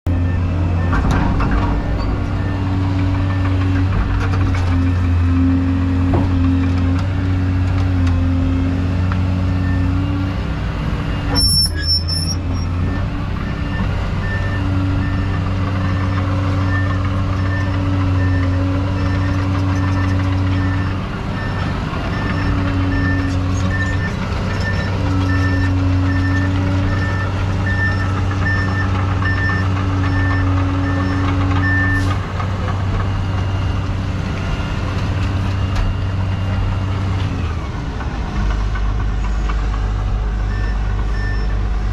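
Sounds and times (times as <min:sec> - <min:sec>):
excavator diesel engine running: 0:00.1 - 0:41.9.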